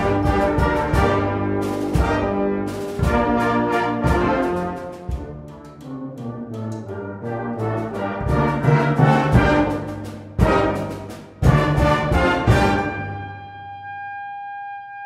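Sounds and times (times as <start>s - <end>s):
brass band playing held chords: 0.0s - 14.7s.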